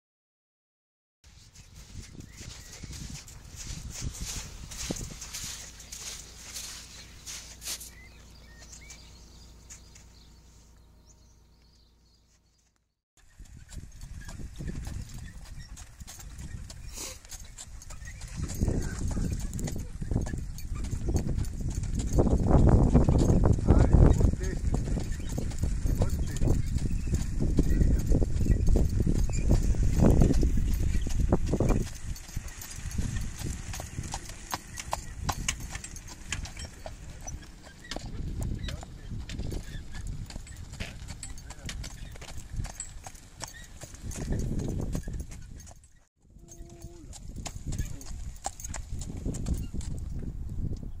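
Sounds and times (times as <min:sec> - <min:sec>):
horse hoofbeats on sand: 0:01.3 - 0:10.4, 0:13.2 - 0:50.2
low carriage rumble: 0:01.6 - 0:12.6, 0:13.2 - 0:51.0.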